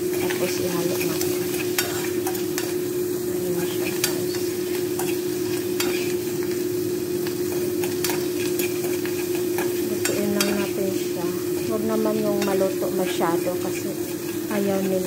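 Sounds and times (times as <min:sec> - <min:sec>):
food sizzling in a frying pan: 0:00.0 - 0:15.0
steady low hum: 0:00.0 - 0:15.0
utensil scraping a pan: 0:00.1 - 0:02.9, 0:03.5 - 0:15.0.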